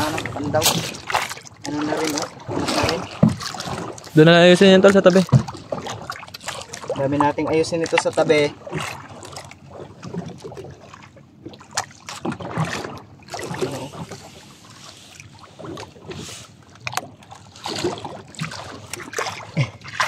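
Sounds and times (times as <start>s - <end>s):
water lapping against boat: 0.0s - 20.0s.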